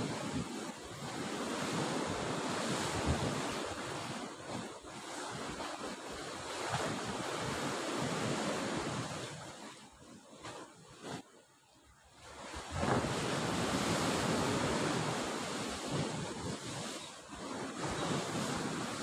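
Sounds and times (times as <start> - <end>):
wind buffeting microphone: 0.0 - 9.7, 12.5 - 19.0
sea surf breaking on rocky shore: 0.0 - 9.8, 12.3 - 19.0.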